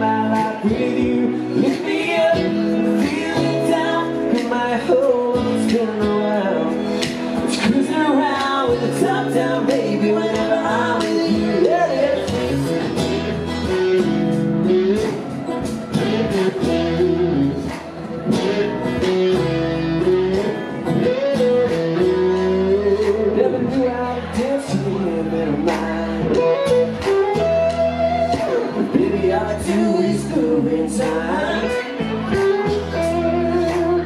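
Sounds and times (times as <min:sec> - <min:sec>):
bending lead melody: 0:00.0 - 0:34.0
live band playing: 0:00.0 - 0:34.0.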